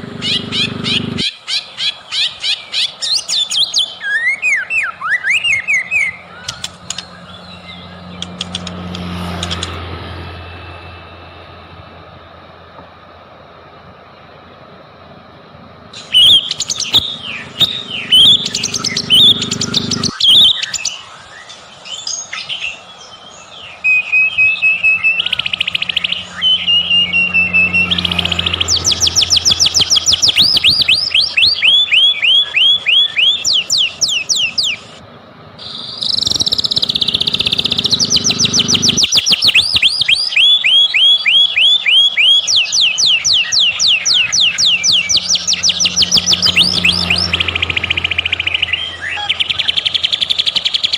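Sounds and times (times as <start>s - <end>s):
bird singing: 0.0s - 50.9s.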